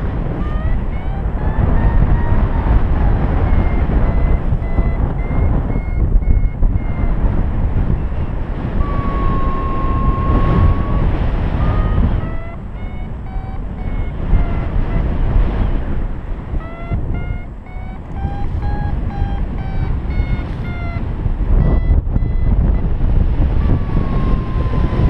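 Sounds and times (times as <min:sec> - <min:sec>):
held electronic tone: 0:00.0 - 0:25.0
variometer beeping: 0:00.0 - 0:25.0
wind rush on microphone: 0:00.0 - 0:25.0.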